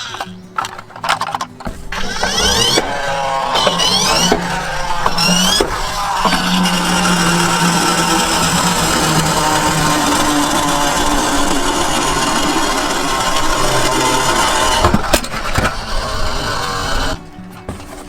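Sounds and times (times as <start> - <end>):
toy truck engine-like noise: 0.0 - 18.0.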